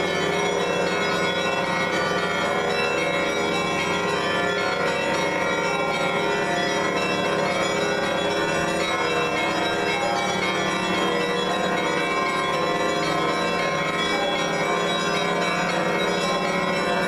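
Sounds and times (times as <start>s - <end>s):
church bells pealing: 0.0s - 17.0s.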